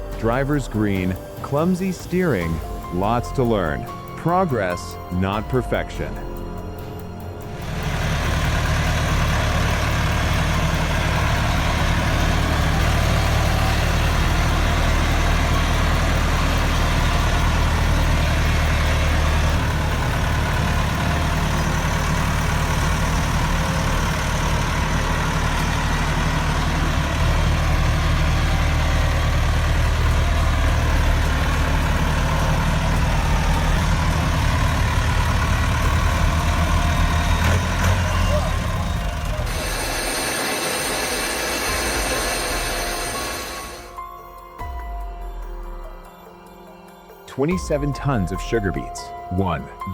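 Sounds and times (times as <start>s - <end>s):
tractor diesel engine running: 0.0s - 44.8s, 47.3s - 49.9s.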